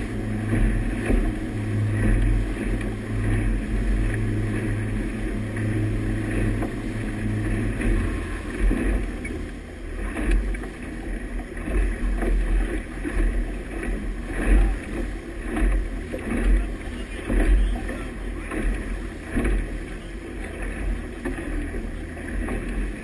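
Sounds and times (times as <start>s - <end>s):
low buffeting thumps: 0.0s - 23.0s
motorboat engine hum: 0.0s - 23.0s
rushing wake water: 0.0s - 23.0s.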